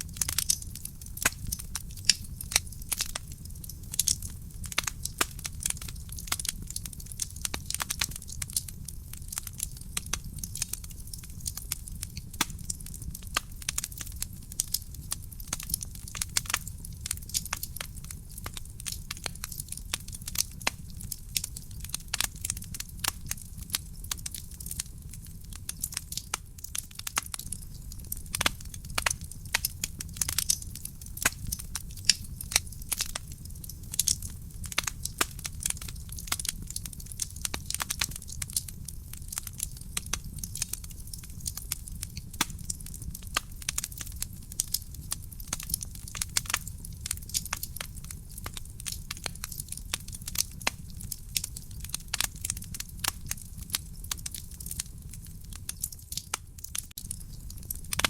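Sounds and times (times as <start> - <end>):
low fire rumble: 0.0 - 58.0
wood fire crackling: 0.0 - 58.0.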